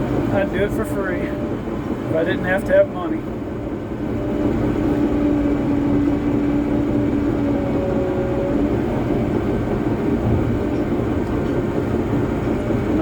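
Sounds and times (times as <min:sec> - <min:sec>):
bulldozer diesel engine running: 0:00.0 - 0:13.0
steady whine: 0:00.0 - 0:13.0.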